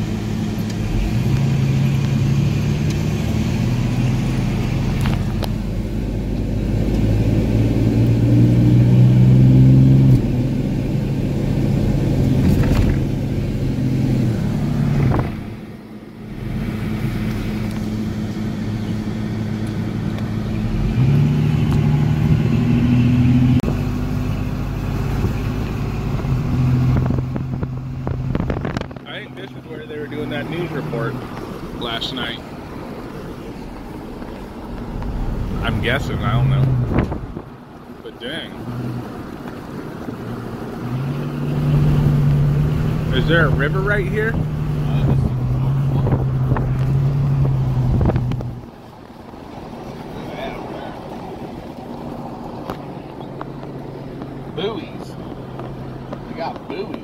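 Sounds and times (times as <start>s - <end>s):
car engine: 0.0s - 57.0s
road noise inside car: 0.0s - 57.0s.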